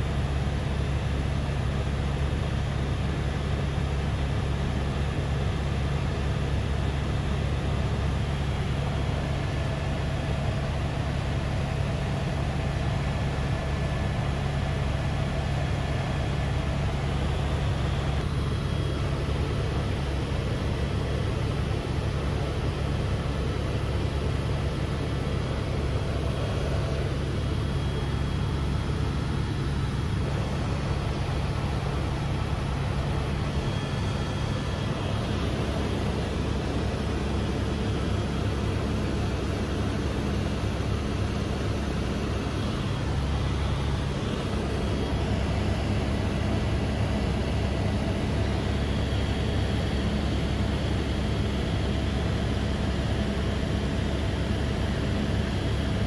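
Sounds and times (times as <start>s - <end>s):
helicopter engine and rotor: 0.0s - 56.0s.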